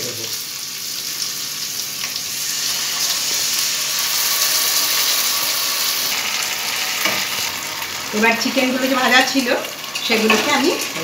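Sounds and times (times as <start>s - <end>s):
food sizzling in a hot pan: 0.0s - 11.0s.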